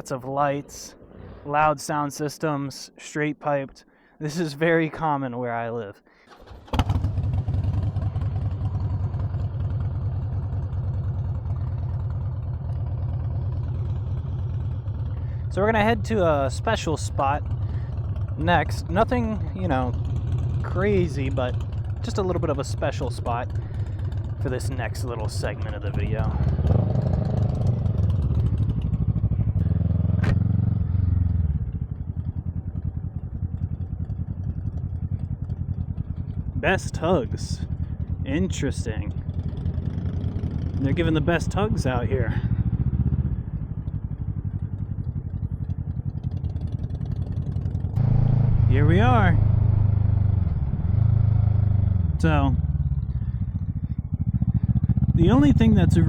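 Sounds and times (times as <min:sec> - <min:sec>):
motorcycle engine idling: 0:06.3 - 0:56.0.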